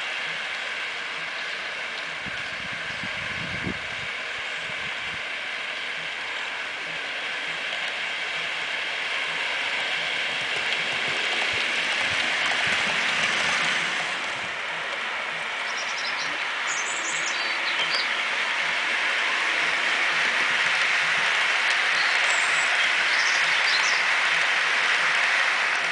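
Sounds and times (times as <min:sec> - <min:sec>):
model train wheels rattling on rails: 0:00.0 - 0:25.9.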